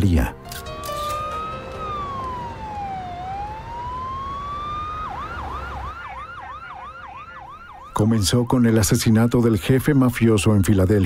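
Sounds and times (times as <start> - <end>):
police car siren wailing: 0.8 - 11.0.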